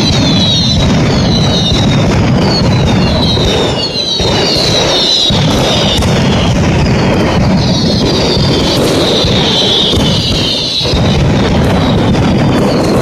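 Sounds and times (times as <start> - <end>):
falling whistles: 0.0 - 13.0
firecrackers cracking and banging: 0.0 - 13.0.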